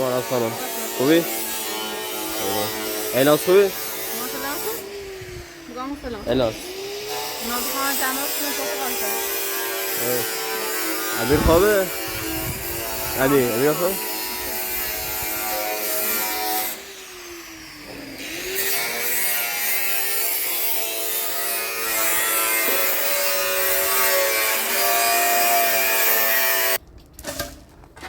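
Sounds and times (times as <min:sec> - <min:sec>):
power tool motor whining: 0:00.0 - 0:26.8.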